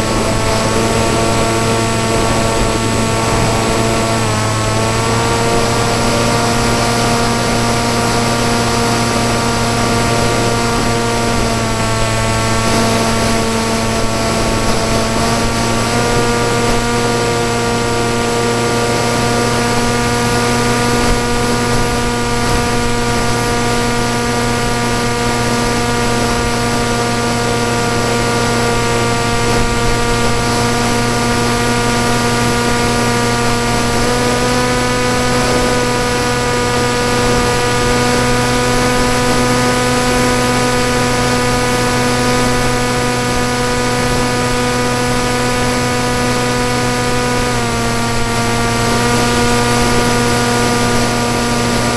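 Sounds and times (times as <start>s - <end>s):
electric motor and propeller whine: 0.0s - 51.9s.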